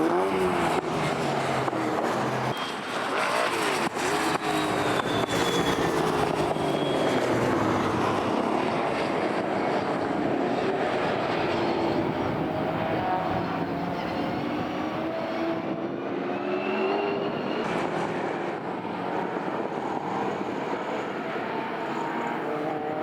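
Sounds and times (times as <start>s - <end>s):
racing car engines accelerating: 0.0s - 23.0s.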